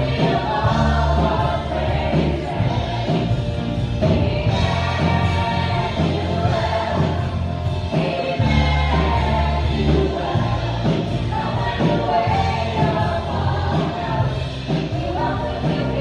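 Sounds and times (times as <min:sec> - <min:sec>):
keyboard accompaniment: 0:00.0 - 0:16.0
low bass notes: 0:00.0 - 0:16.0.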